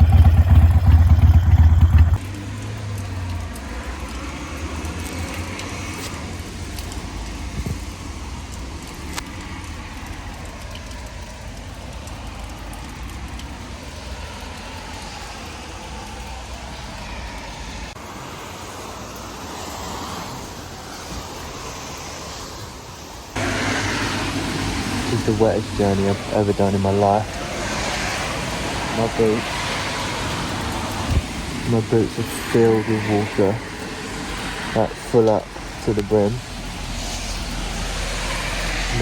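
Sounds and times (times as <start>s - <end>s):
moving vehicle rumbling: 0.0s - 18.1s, 23.4s - 39.0s.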